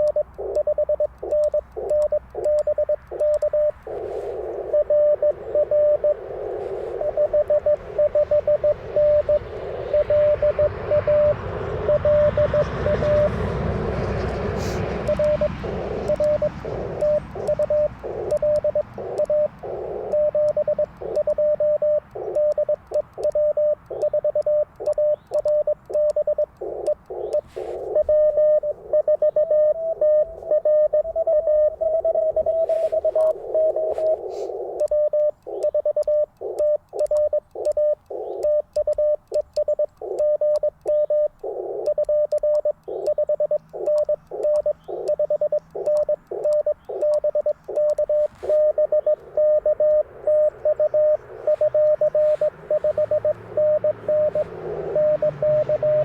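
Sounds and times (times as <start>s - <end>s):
faint clicks: 0.0s - 13.3s, 14.1s - 56.0s
morse code tone: 0.0s - 56.0s
receiver hiss: 0.0s - 56.0s.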